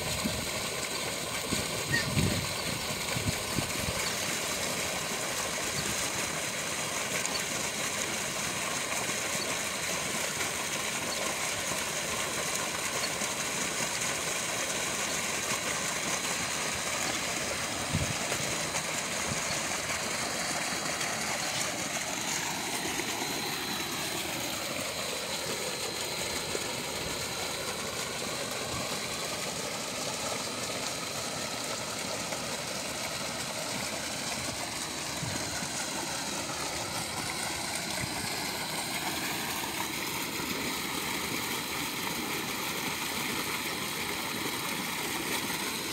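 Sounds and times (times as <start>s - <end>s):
stream water flowing over stones: 0.0s - 45.9s.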